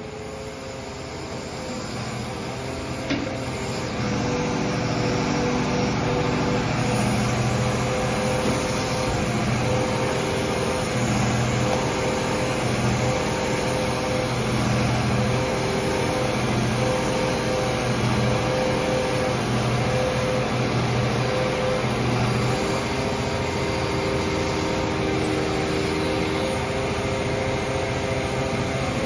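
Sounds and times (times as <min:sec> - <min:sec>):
crane hydraulic pump humming: 0:00.0 - 0:29.0.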